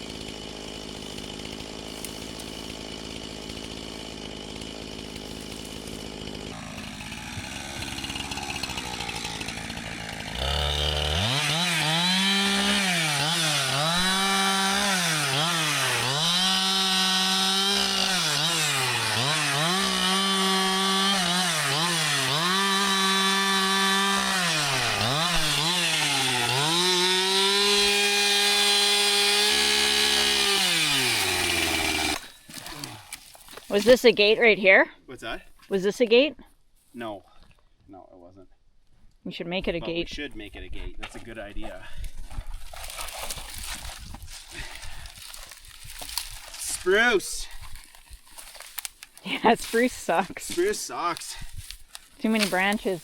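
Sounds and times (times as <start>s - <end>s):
chainsaw cutting timber: 0.0s - 34.3s, 42.3s - 53.0s.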